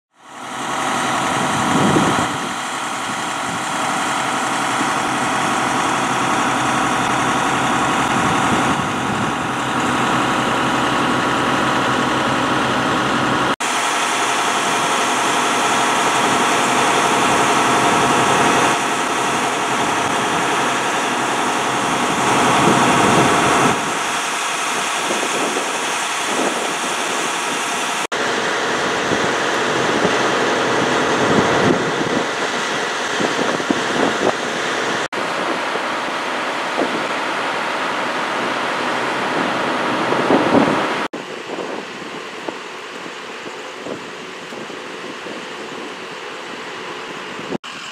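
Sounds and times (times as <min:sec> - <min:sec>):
diesel engines idling: 0:00.2 - 0:47.9.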